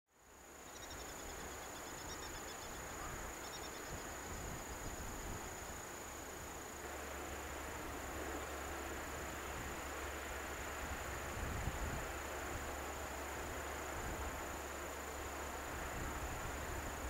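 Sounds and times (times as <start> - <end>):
insects trilling: 0.2 - 17.0
low outdoor rumble: 0.3 - 17.0.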